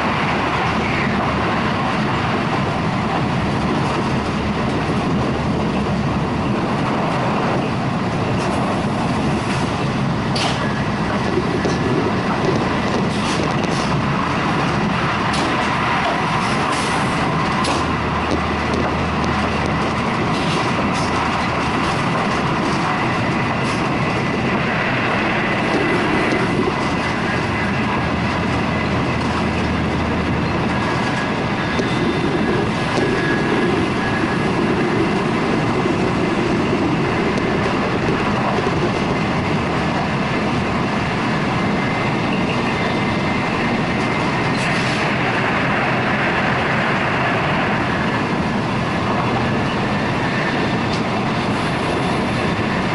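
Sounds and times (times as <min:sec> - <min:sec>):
train running noise from inside: 0:00.0 - 0:52.9.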